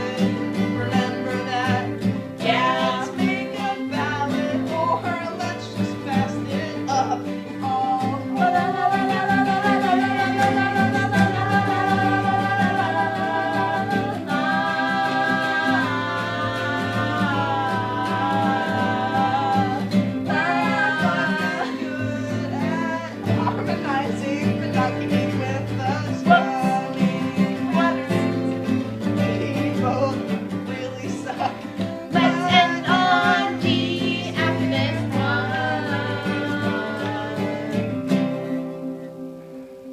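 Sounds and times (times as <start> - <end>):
person singing country-style: 0.0 - 39.6
guitar: 0.0 - 39.9.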